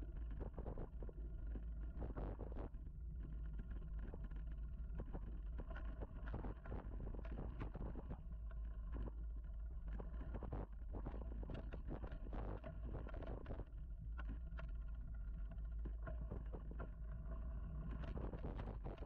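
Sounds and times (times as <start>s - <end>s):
wind rumble on camera: 0.0s - 19.0s.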